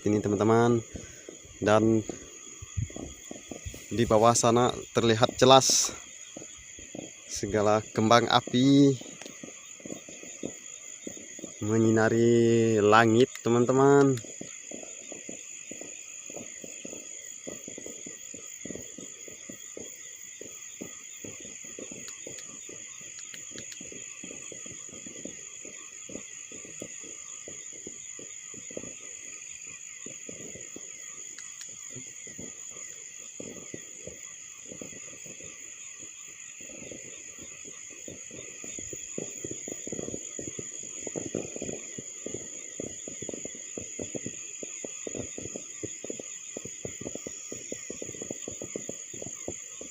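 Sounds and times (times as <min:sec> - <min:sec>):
crickets and insects chirping: 0:00.0 - 0:49.9
low crackling and popping: 0:00.0 - 0:49.9.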